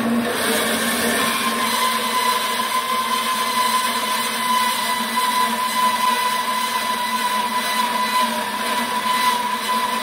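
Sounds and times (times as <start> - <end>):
band saw cutting metal: 0.0 - 10.0.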